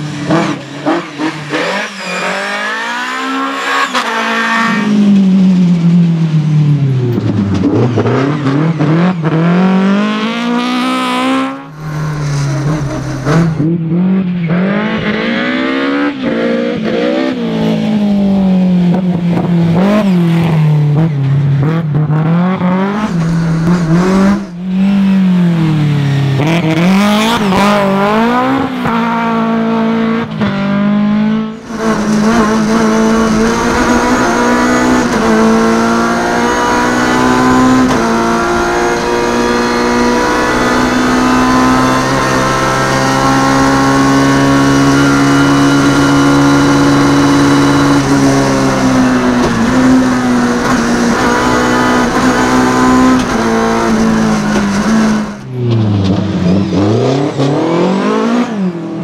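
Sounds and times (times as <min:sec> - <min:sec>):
car engine revving hard: 0:00.0 - 0:05.2, 0:07.5 - 0:59.0.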